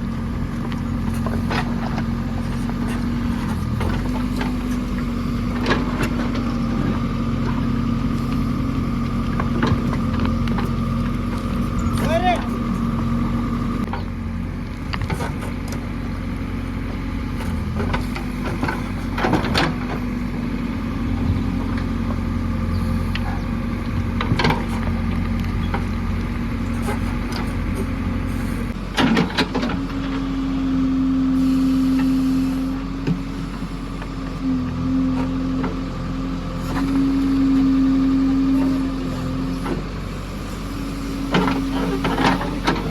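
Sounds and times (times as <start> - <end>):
diesel engine running and revving: 0.0 - 42.9.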